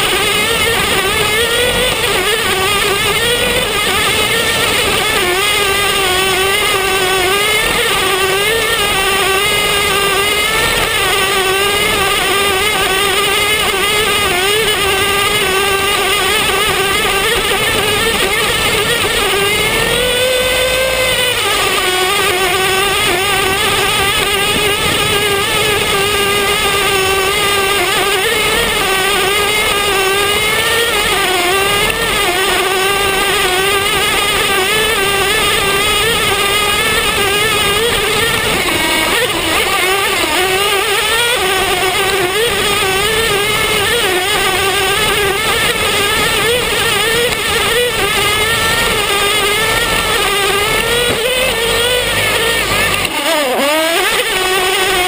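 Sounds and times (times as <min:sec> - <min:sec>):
small engine buzzing at high revs: 0:00.0 - 0:55.0.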